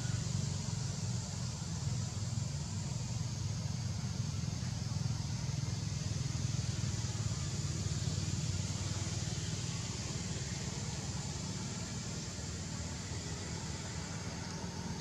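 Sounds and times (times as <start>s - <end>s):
continuous low rumble: 0.0s - 15.0s
high-pitched hiss: 0.0s - 15.0s.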